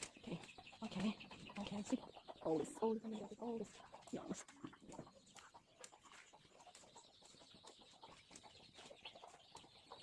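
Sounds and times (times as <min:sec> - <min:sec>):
distant bird calls: 0:00.0 - 0:10.0.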